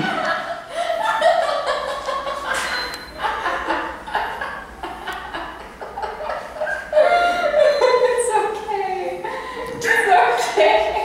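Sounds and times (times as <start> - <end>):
people laughing: 0.0 - 9.8.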